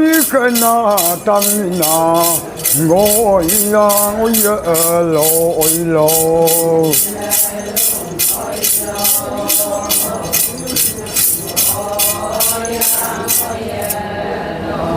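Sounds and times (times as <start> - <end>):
rattling percussion beat: 0.0 - 14.0
voices singing: 0.0 - 14.9.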